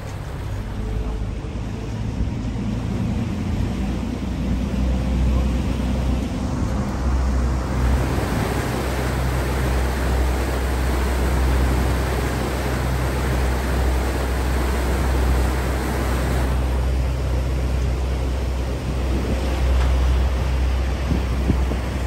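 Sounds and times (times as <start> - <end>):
ferry engines droning: 0.0 - 22.0
wind and water rushing: 0.0 - 22.0.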